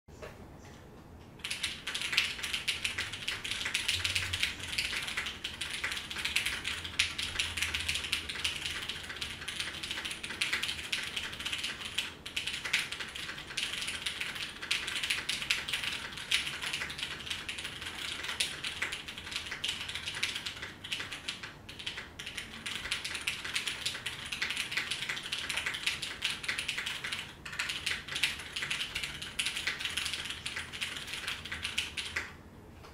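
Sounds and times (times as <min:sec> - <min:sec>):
typing on mechanical keyboard: 0:01.4 - 0:32.4.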